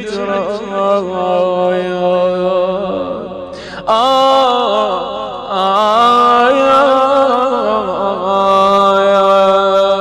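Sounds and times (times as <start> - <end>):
wordless vocal lament chant: 0.0 - 10.0.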